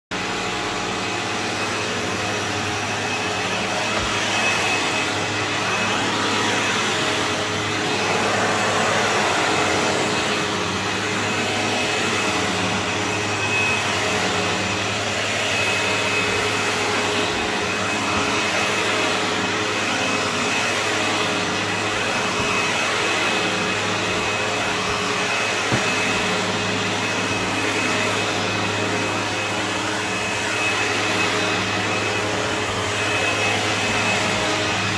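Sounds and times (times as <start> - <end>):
vacuum cleaner running on carpet: 0.1 - 34.9.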